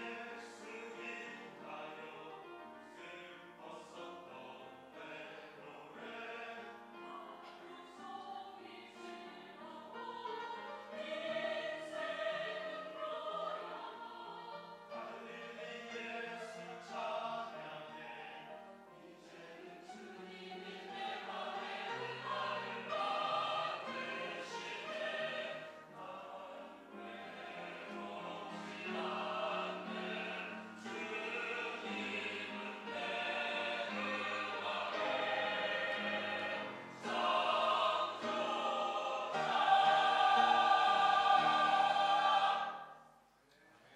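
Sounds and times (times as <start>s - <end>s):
mixed choir singing: 0.0s - 43.2s.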